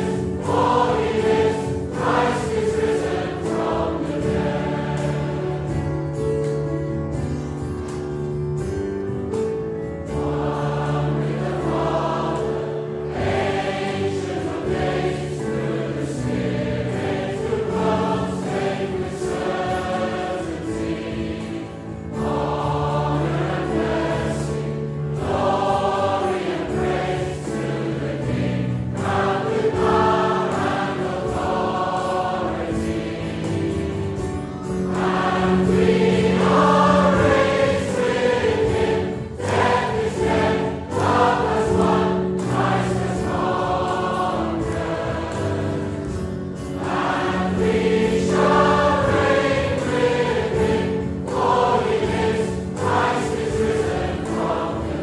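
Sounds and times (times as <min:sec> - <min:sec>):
choir singing a hymn: 0:00.0 - 0:55.0
musical accompaniment: 0:00.0 - 0:55.0.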